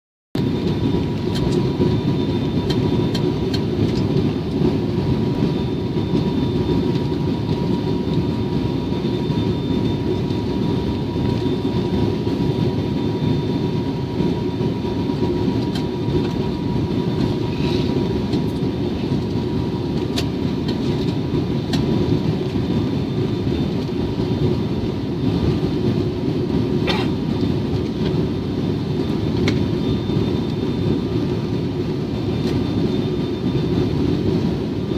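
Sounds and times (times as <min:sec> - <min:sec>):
faint steady whine: 0:00.4 - 0:34.9
turboprop cabin rumble: 0:00.4 - 0:34.9.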